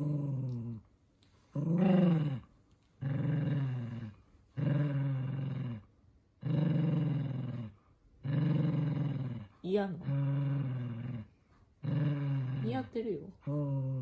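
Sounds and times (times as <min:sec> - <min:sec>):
dog growling grumbles: 0:00.0 - 0:00.8, 0:01.5 - 0:14.0.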